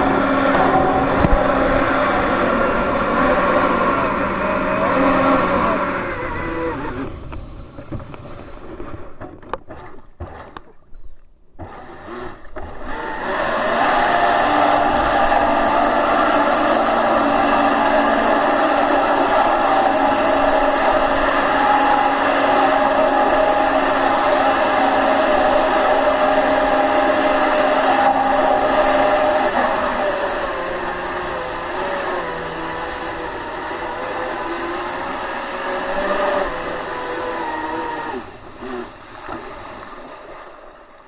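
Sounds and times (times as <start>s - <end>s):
electric motor whine: 0.0s - 7.4s, 11.6s - 39.5s
rushing water: 0.0s - 10.6s, 11.6s - 41.0s.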